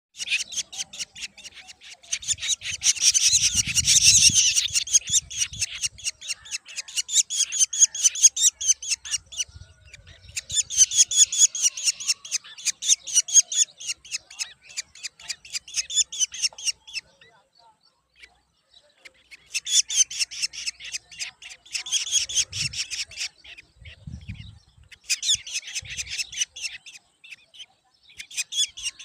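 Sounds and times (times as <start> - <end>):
nestlings giving begging chirps: 0.2 - 17.3, 18.1 - 29.0.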